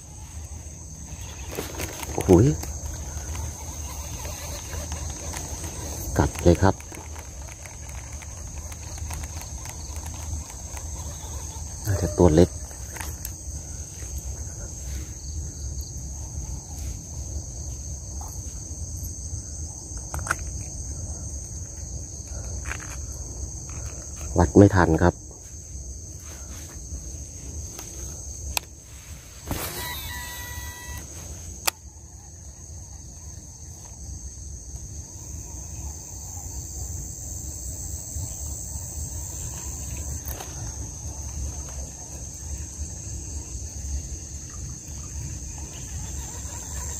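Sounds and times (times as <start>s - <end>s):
insects chorus: 0.0s - 46.9s.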